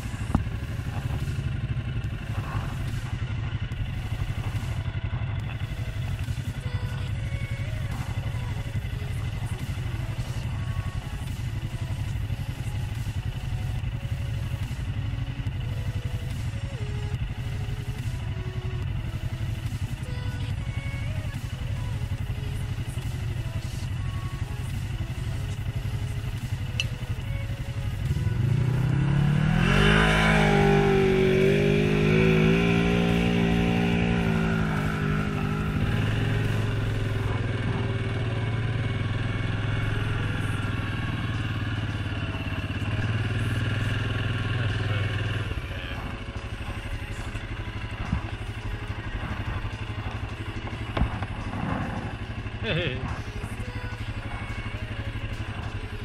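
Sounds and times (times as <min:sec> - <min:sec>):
atv engine accelerating: 0:00.0 - 0:56.0.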